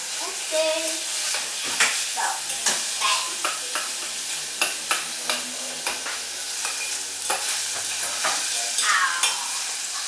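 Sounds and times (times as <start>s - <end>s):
onions sizzling in a pan: 0.0s - 10.0s.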